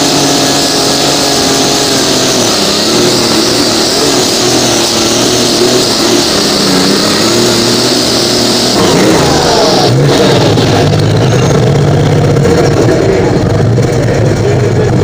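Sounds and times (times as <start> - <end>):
engine hiss: 0.0 - 15.0
tractor engine at full throttle: 0.0 - 15.0.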